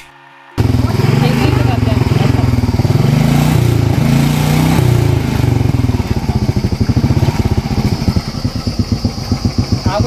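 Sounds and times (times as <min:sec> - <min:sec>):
motorcycle engine revving and idling: 0:00.6 - 0:10.0.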